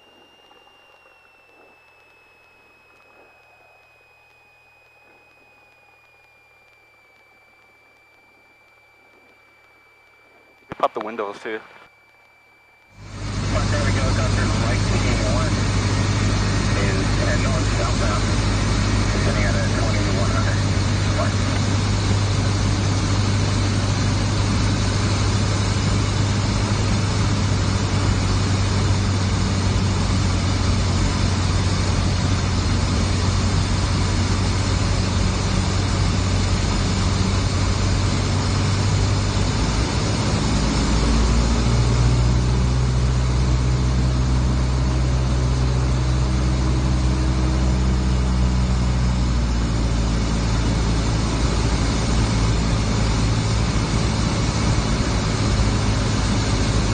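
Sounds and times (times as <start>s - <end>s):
light aircraft engine and propeller: 0.0s - 56.9s.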